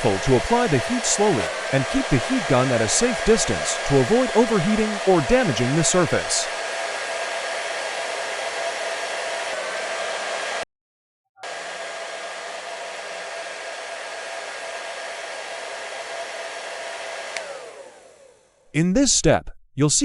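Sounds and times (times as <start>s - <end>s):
heat gun blowing: 0.0s - 10.6s, 11.4s - 18.4s.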